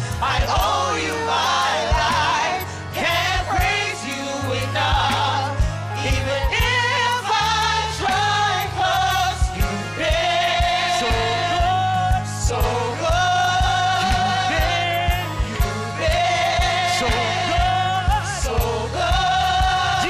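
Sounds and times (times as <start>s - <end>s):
band accompaniment with bass: 0.0s - 20.0s
gospel group singing in harmony: 0.0s - 20.0s.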